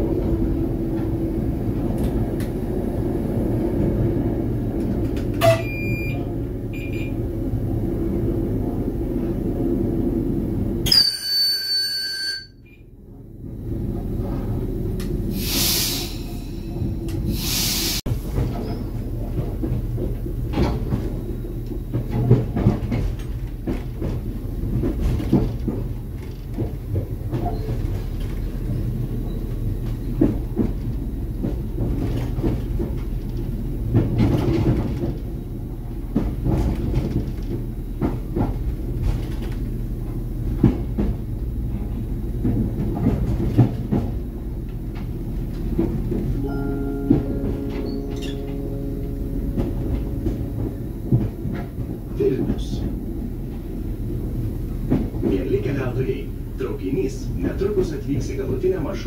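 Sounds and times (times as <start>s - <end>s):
train running rumble: 0.0s - 11.3s, 12.8s - 59.0s.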